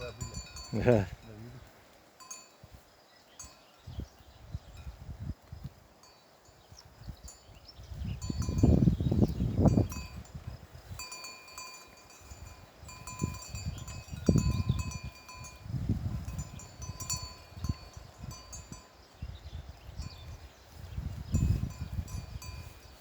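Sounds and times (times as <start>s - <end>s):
goat bells clinking: 0.0s - 23.0s.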